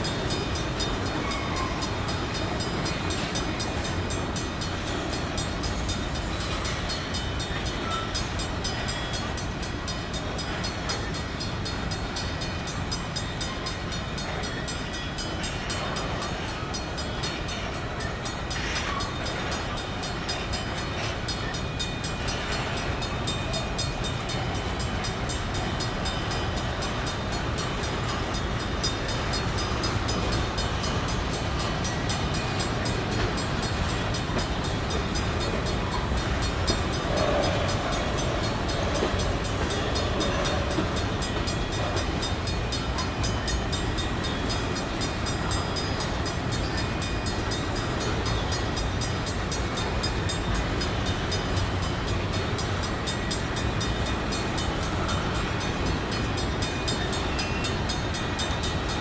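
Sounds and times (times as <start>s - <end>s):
freight train wheels on rail: 0.0s - 59.0s.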